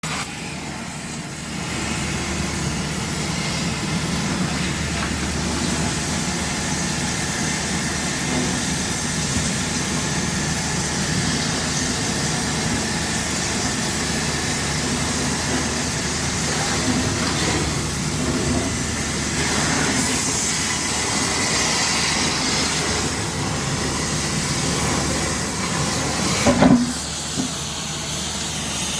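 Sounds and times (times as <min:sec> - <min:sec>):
cutting torch hissing: 0:00.0 - 0:28.9.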